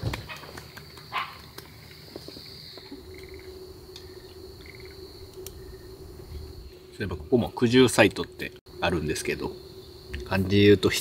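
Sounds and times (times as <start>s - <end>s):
insects trilling: 0.0s - 11.0s
low steady hum: 1.7s - 11.0s.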